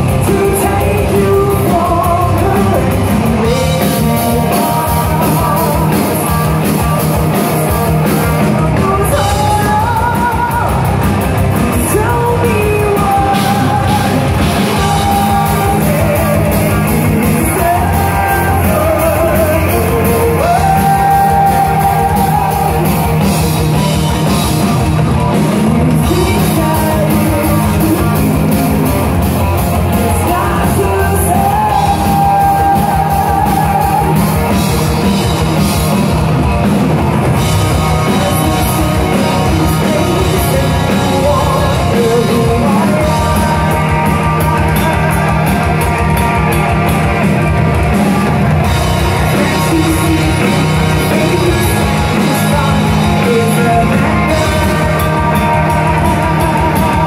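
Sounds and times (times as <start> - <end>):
distorted guitars: 0.0 - 57.0
fast dense drumming: 0.0 - 57.0
power metal band playing live: 0.0 - 57.0.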